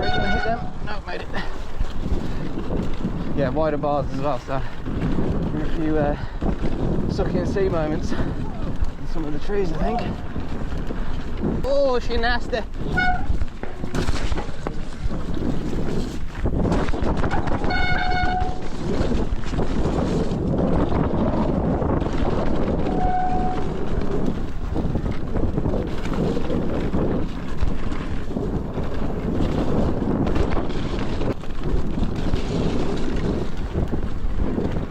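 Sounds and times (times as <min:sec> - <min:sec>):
bike rattling over rough ground: 0:00.0 - 0:34.9
wind buffeting microphone: 0:00.0 - 0:34.9.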